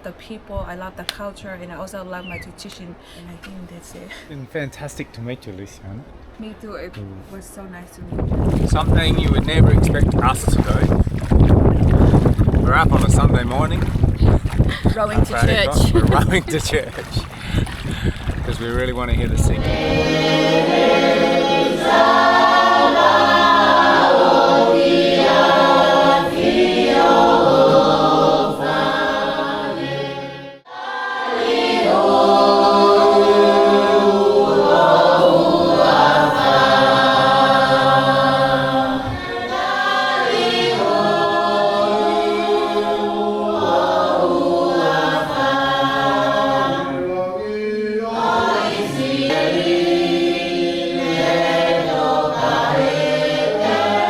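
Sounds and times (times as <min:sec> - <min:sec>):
choir singing a hymn: 0:06.2 - 0:54.0.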